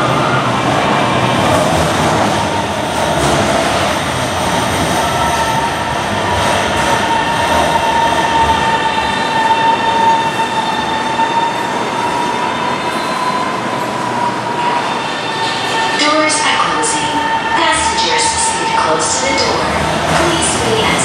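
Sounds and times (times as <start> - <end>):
train rumbling into station: 0.0 - 21.0.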